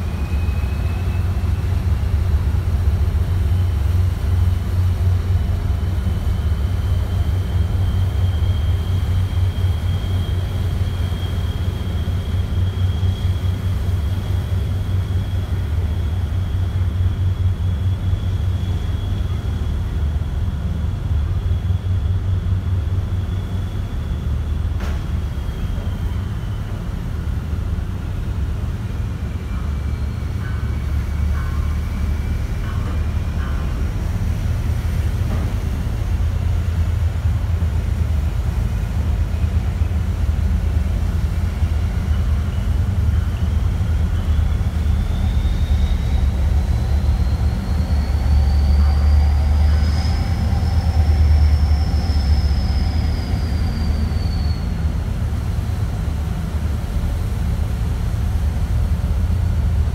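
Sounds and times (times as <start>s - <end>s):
ferry engine rumble: 0.0s - 59.9s.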